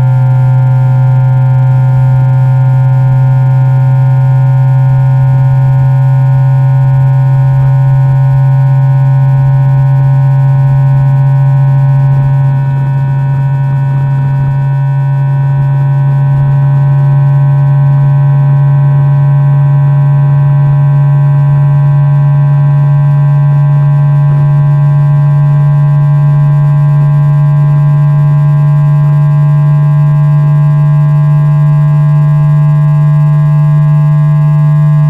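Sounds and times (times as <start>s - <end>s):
electric motor hum rising in pitch: 0.0s - 35.0s.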